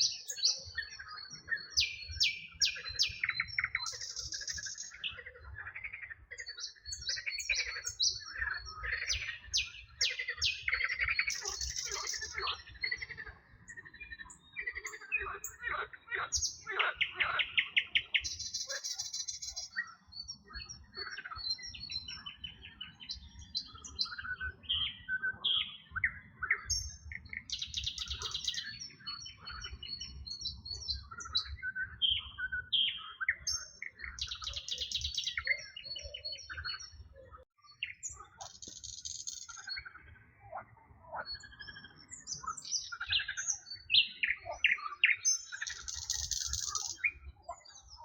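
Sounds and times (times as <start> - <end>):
birds chirping and whistling: 0.0 - 48.0.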